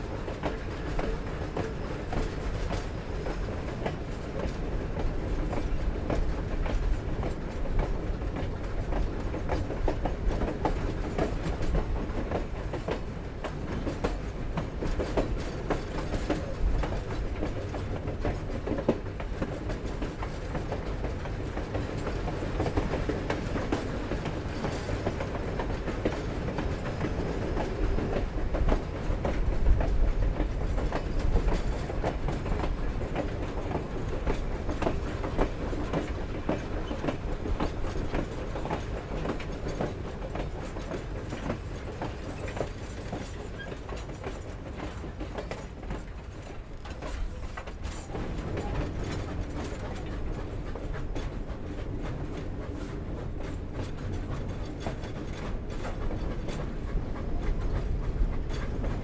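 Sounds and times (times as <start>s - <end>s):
train cars clanking: 0.0s - 59.0s
train rumbling on rails: 0.0s - 59.0s
wheels clicking over rail joints: 0.2s - 59.0s.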